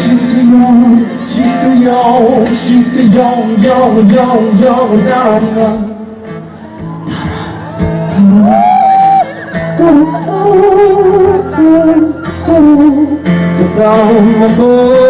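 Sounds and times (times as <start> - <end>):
guitar accompaniment: 0.0 - 15.0
person singing: 0.0 - 15.0.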